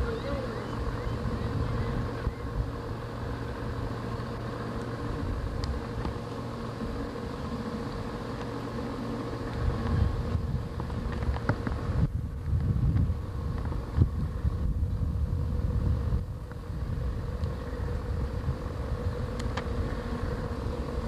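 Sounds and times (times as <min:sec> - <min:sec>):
low rumbling on microphone: 0:00.0 - 0:21.0
outboard engine running: 0:00.0 - 0:21.0.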